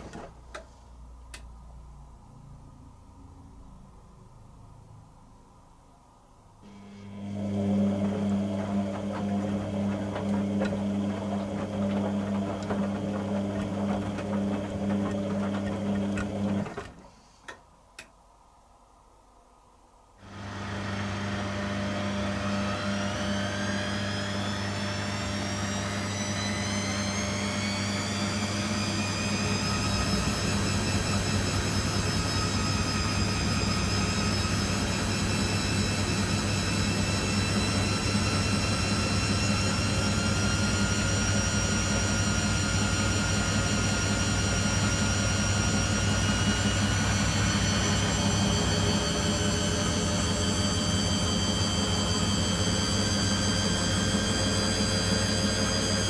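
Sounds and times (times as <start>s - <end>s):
washing machine spin whine: 6.6s - 17.2s, 20.2s - 56.0s.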